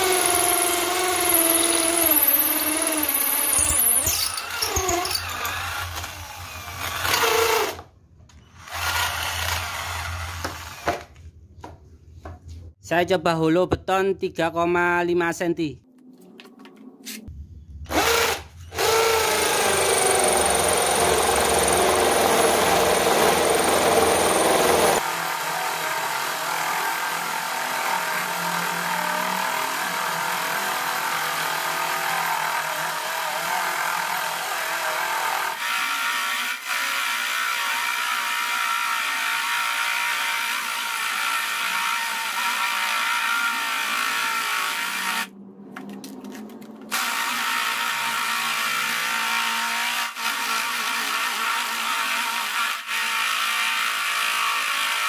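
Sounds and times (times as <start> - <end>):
drill grinding into concrete: 0.0 - 7.9, 8.5 - 11.1, 17.9 - 45.3, 46.9 - 55.0.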